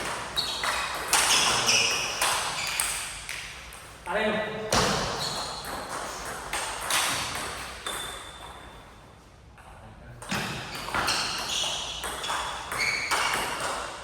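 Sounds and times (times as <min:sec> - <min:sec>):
table tennis ball hits: 0:00.0 - 0:04.0, 0:04.7 - 0:08.7, 0:10.2 - 0:14.0.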